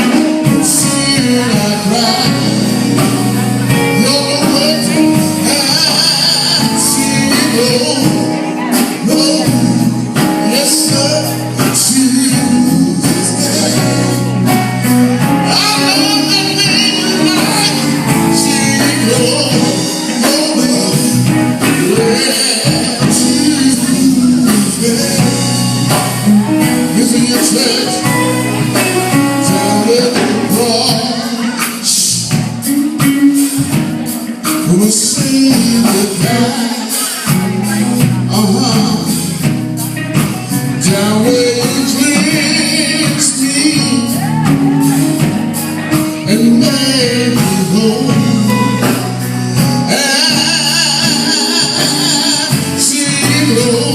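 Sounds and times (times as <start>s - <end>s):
band with bass line: 0.0s - 53.9s
voices singing gospel: 0.0s - 53.9s.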